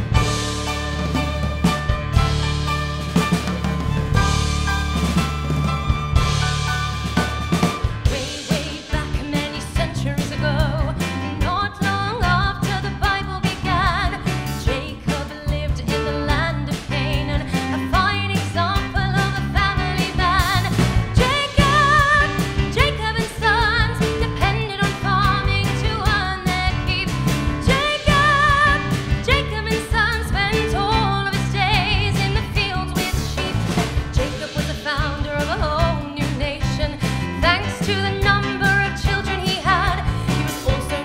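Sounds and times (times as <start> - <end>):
live band drums and bass: 0.0 - 41.0
woman singing with vibrato: 8.0 - 41.0.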